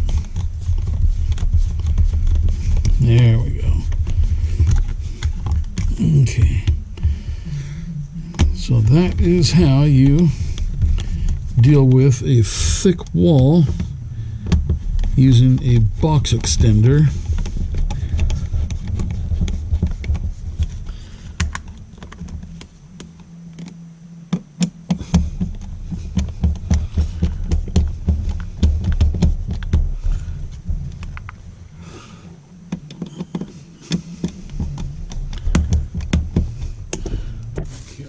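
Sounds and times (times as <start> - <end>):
low rumbling handling noise: 0.0 - 38.0.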